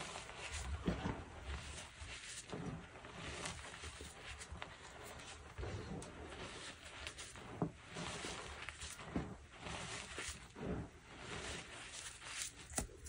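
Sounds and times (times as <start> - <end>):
chalk crumbling and crunching: 0.0 - 13.0.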